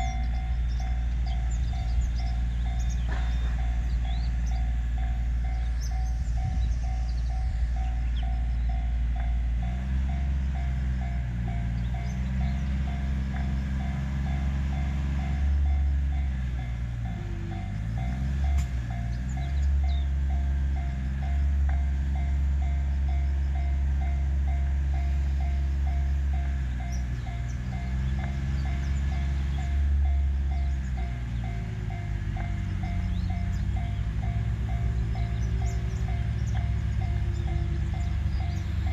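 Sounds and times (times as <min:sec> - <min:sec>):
deep engine drone: 0:00.0 - 0:38.9.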